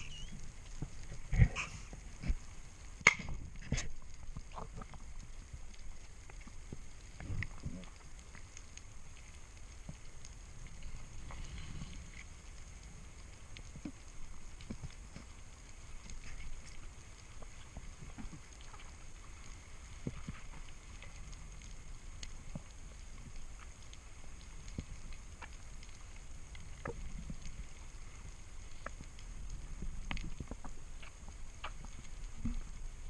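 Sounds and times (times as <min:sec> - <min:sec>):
low underwater rumble: 0:00.0 - 0:33.0.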